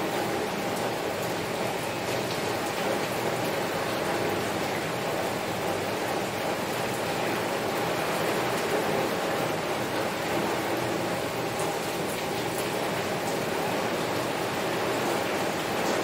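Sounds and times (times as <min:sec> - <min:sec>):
heavy rain on a window: 0:00.0 - 0:16.0.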